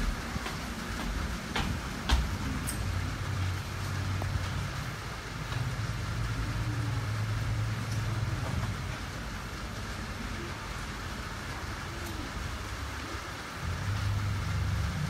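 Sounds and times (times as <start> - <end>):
rumble of passing vehicles: 0.0 - 15.0.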